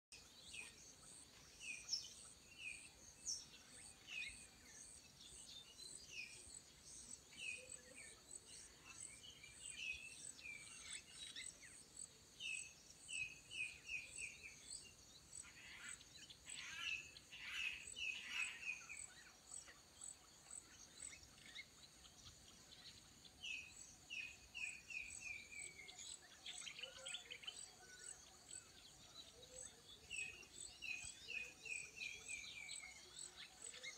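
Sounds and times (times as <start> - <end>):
faint birdsong chirping: 0.0 - 33.9.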